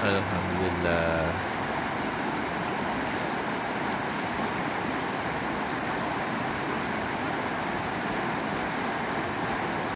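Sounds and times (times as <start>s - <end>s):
river rushing over stones: 0.0s - 9.9s.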